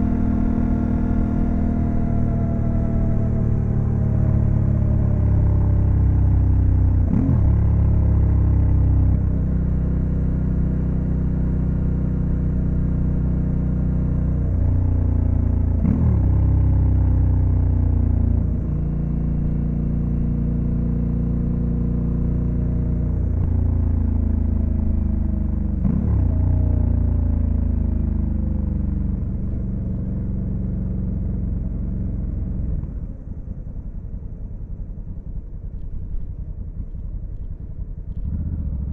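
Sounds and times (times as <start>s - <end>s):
motorcycle engine at road speed: 0.0s - 38.9s.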